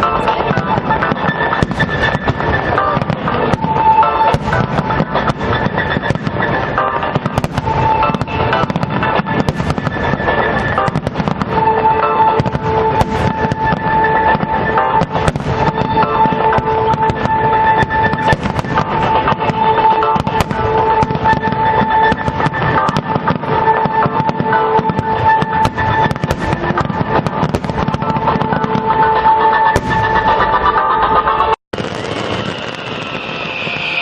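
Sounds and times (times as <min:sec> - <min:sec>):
fireworks bursts and crackles: 0:00.0 - 0:34.0
music with long held notes: 0:00.0 - 0:34.0.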